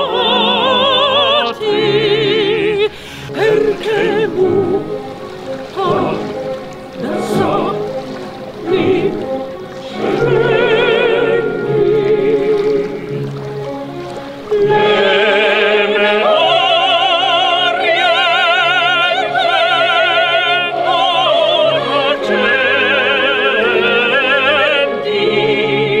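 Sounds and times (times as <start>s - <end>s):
soprano singing opera: 0.0s - 26.0s
tenor singing opera: 0.0s - 26.0s.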